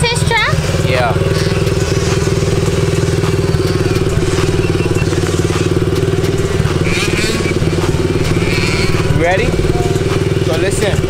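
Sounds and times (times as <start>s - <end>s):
dirt bike engine idling: 0.0s - 11.0s.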